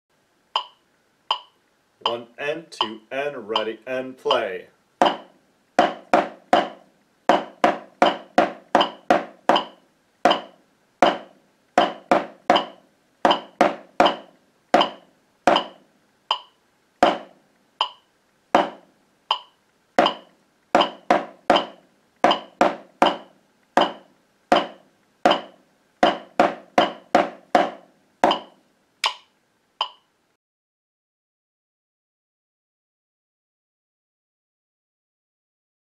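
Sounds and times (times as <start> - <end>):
drumsticks on practice pad: 0.6 - 4.4, 5.0 - 30.1
metronome ticking: 0.6 - 4.4, 5.0 - 30.1.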